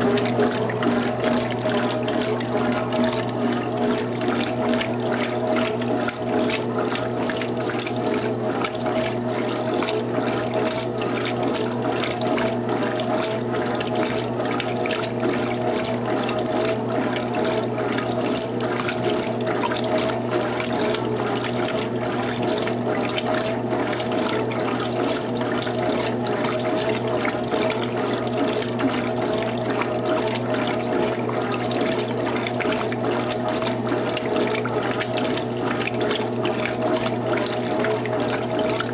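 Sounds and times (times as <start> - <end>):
washing machine hum: 0.0 - 38.9
water running and splashing: 0.0 - 38.9.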